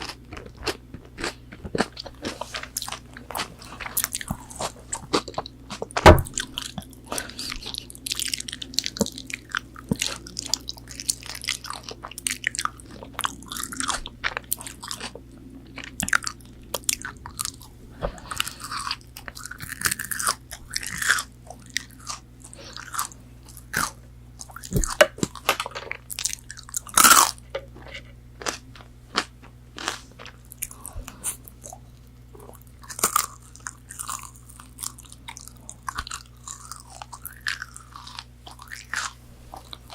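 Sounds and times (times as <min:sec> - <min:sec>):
crunching and chewing food: 0:00.0 - 0:39.9.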